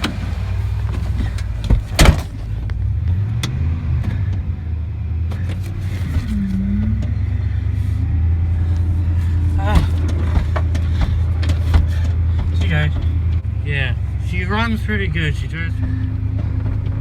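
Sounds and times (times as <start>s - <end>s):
truck engine cranking and running: 0.0s - 17.0s.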